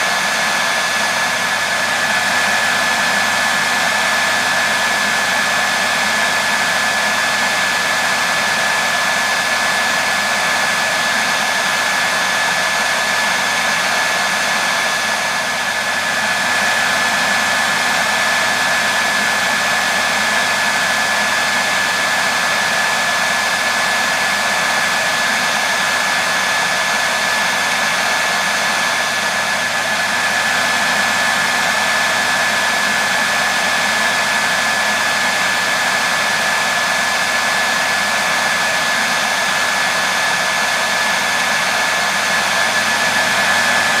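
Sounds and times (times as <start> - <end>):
hair dryer blowing: 0.0 - 44.0.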